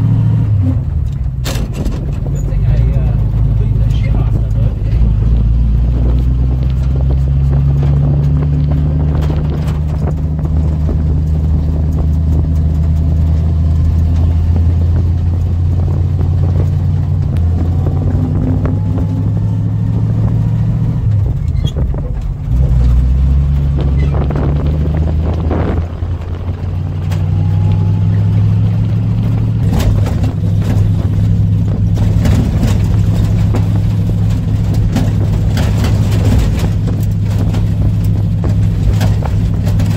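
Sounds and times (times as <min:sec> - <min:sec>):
pickup truck engine running: 0:00.0 - 0:39.9.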